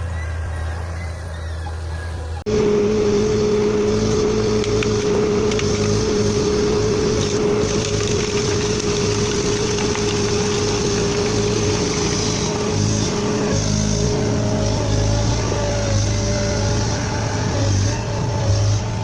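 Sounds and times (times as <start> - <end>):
constant whine: 0.0 - 19.0
heavy machine engine running: 0.0 - 19.0.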